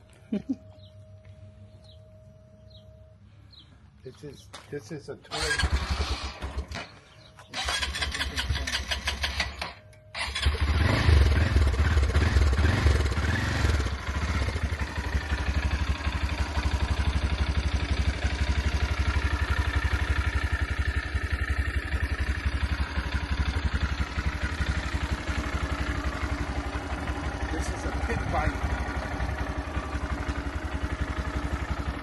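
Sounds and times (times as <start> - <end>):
motorcycle engine starting and revving: 5.2 - 32.0.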